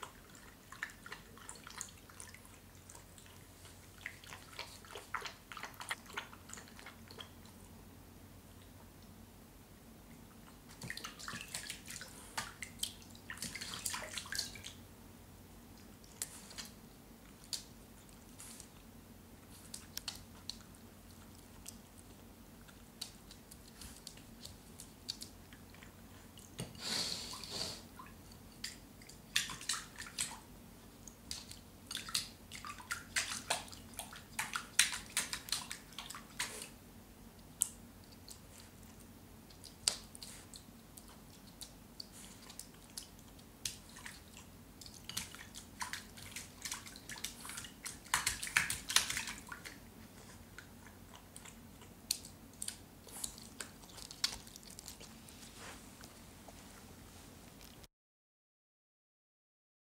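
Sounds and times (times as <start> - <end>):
puppy lapping and splashing water: 0.0 - 7.8, 10.5 - 14.9, 15.8 - 36.8, 37.4 - 56.1.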